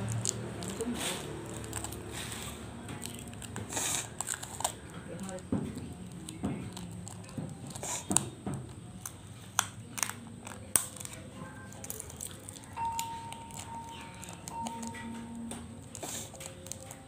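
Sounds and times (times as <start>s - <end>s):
paper crinkling: 0.0s - 17.0s.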